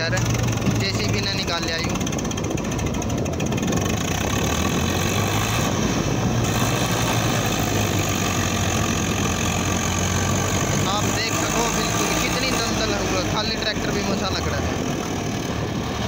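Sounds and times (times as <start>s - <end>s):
diesel tractor engines running: 0.0s - 16.0s.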